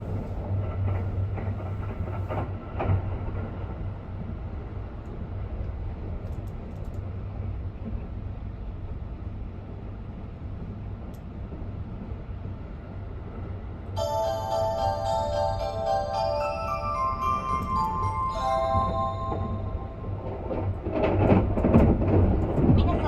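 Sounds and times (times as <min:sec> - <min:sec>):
train interior rumble: 0:00.0 - 0:23.0.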